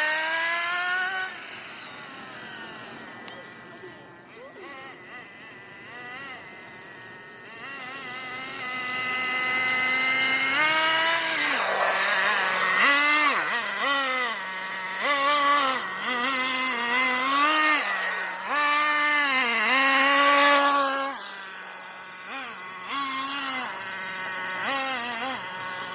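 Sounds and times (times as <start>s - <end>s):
buggy engine revving: 0.0s - 3.3s, 7.2s - 25.9s.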